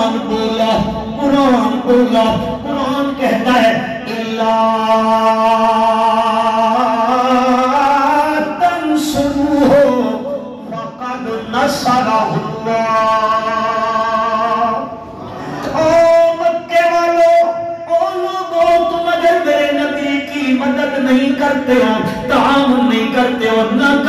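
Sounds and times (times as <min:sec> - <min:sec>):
man chanting over loudspeaker: 0:00.0 - 0:24.0.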